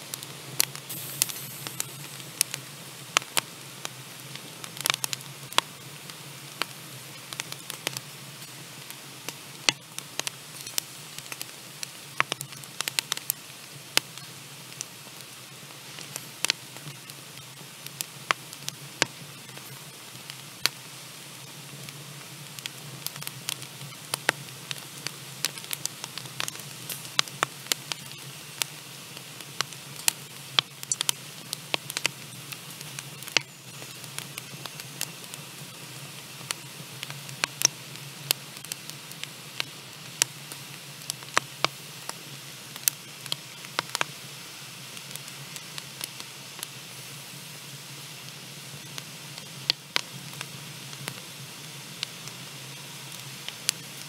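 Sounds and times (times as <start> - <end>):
fire hiss: 0.0 - 54.0
wood fire crackling and popping: 0.0 - 54.0.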